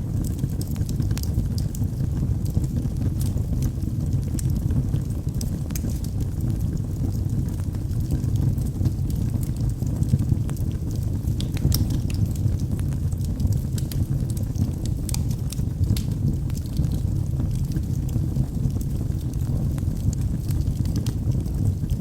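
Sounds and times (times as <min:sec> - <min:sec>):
log fire popping and snapping: 0:00.0 - 0:22.0
low rumble of burning: 0:00.0 - 0:22.0.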